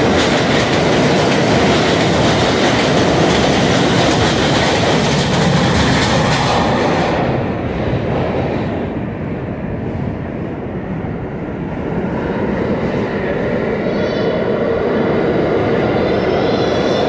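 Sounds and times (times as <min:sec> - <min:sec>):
low steady train rumble: 0:00.0 - 0:17.0
subway train hiss and rumble: 0:00.0 - 0:17.0.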